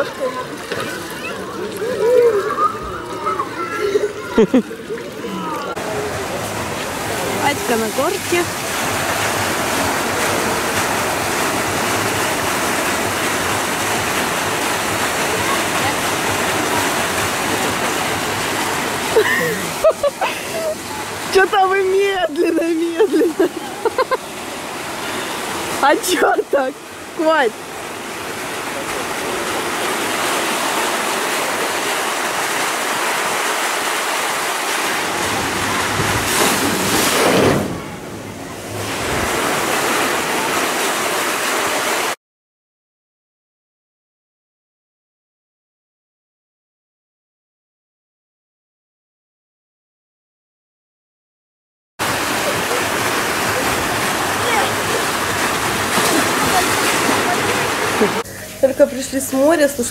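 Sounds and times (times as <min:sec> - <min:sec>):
water splashing into pool: 0:00.0 - 0:42.2, 0:52.0 - 0:58.3.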